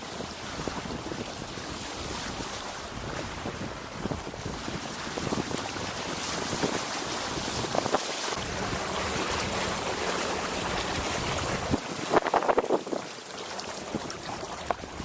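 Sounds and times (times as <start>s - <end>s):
water splashing: 0.0s - 15.0s
water washing along hull: 0.0s - 15.0s
wind on microphone: 0.0s - 15.0s.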